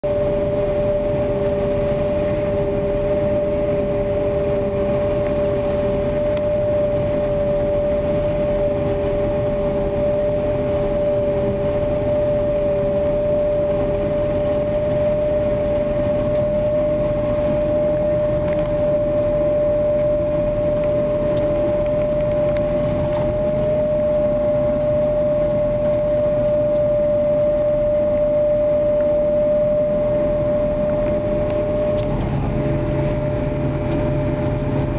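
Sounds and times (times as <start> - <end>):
lower hum: 0.0 - 34.9
machinery engine rumble: 0.0 - 34.9
steady high hum: 0.0 - 34.9.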